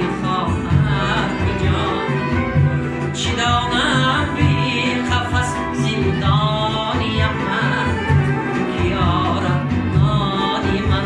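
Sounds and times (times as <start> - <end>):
instrumental backing with beat: 0.0 - 11.0
person singing: 0.0 - 11.0.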